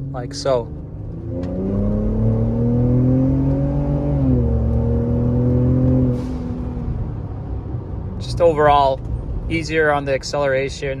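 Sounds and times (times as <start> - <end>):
truck engine accelerating: 0.0 - 9.6.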